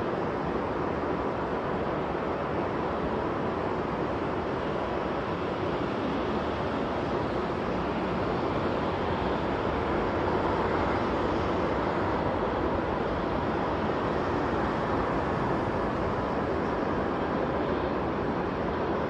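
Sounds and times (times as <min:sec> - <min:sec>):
distant jet engine roar: 0:00.0 - 0:19.0.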